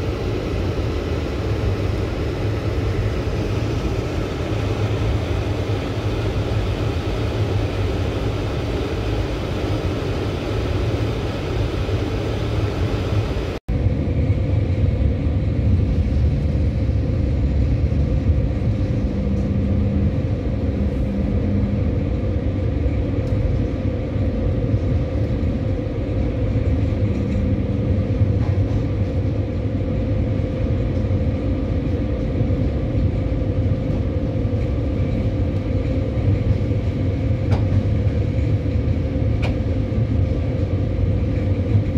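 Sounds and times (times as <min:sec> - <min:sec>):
passenger train running noise: 0:00.0 - 0:41.9.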